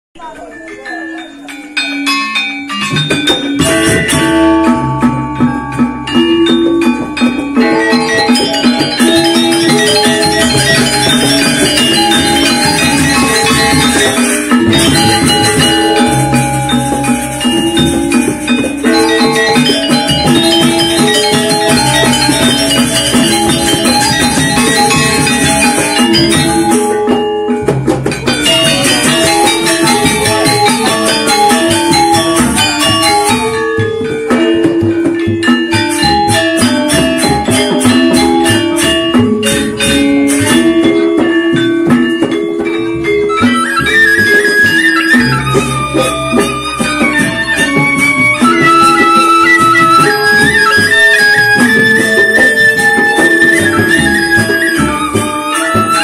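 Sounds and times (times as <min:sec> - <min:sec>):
hand drum: 0:00.2 - 0:56.0
metallophones ringing melody: 0:00.2 - 0:56.0.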